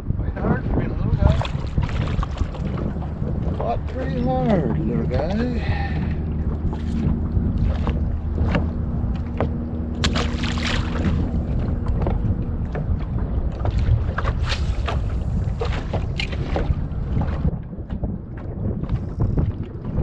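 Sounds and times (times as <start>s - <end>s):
boat motor humming: 0.0s - 20.0s
wind on microphone: 0.0s - 20.0s.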